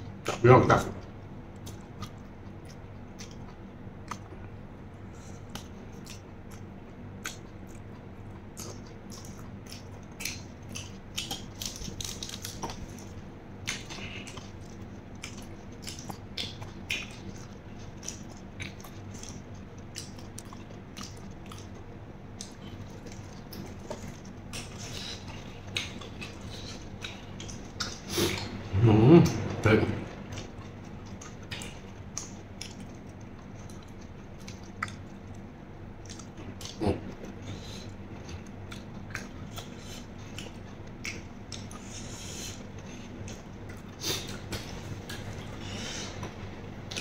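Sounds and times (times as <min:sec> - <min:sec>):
steady low hum: 0:00.0 - 0:47.0
wet chewing clicks: 0:00.2 - 0:04.5, 0:05.3 - 0:28.6, 0:29.3 - 0:47.0.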